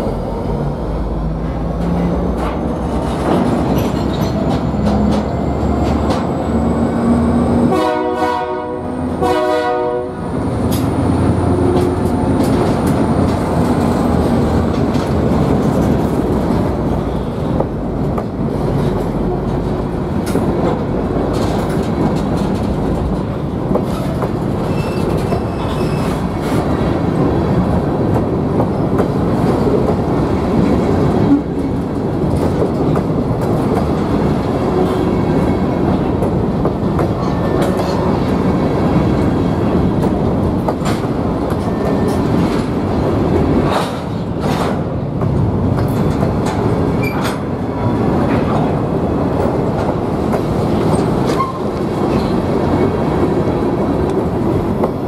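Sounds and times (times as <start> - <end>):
train wheels rumbling and clicking: 0.0 - 55.0.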